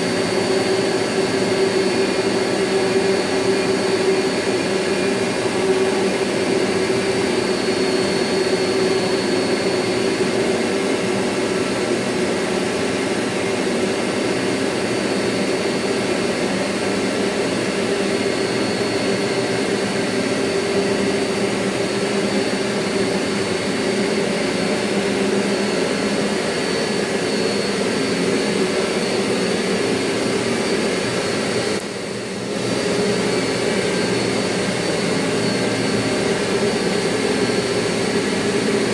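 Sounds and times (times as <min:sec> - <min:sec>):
high machine whine: 0:00.0 - 0:38.9.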